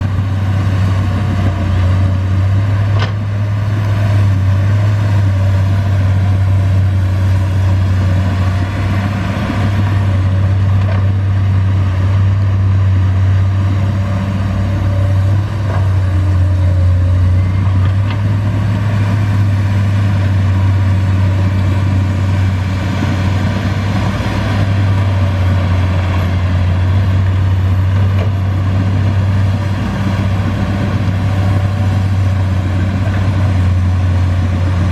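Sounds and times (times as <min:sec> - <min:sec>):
excavator diesel engine humming: 0:00.0 - 0:34.9.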